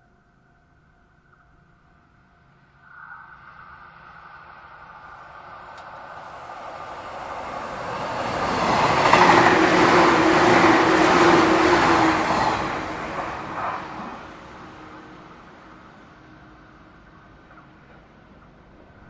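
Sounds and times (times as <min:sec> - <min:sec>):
steady hum: 0:00.0 - 0:17.4
electric train running noise: 0:02.9 - 0:19.0.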